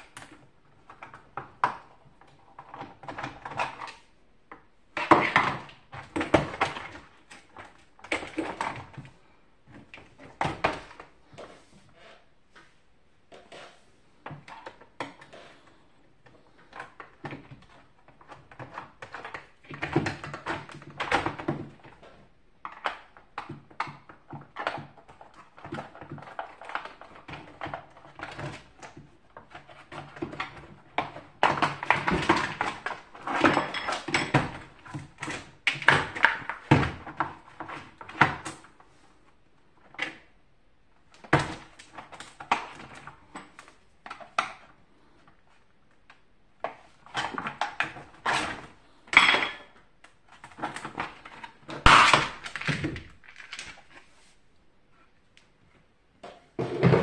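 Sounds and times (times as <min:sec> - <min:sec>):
plastic scraping on plastic: 0:00.0 - 0:40.3, 0:41.1 - 0:57.0.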